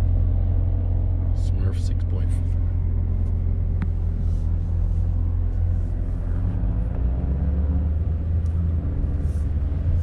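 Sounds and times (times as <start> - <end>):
car engine running at low speed: 0.0 - 10.0.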